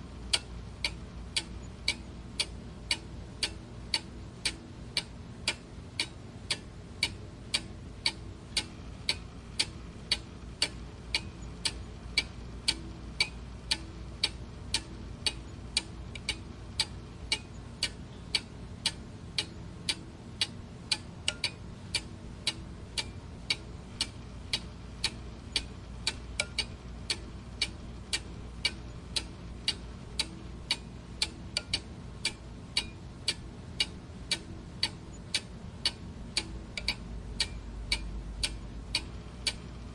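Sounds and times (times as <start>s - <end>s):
clock ticking: 0.3s - 39.7s.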